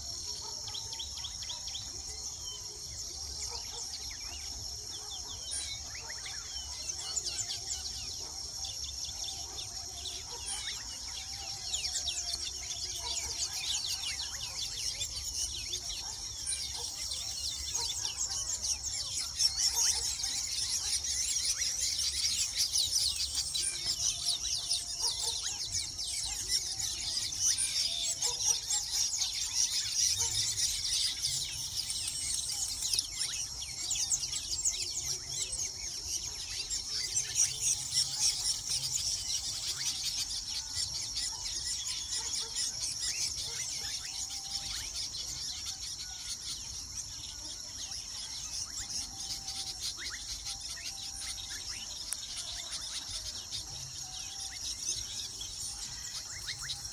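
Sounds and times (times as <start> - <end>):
weaver birds chattering: 0.0 - 56.9.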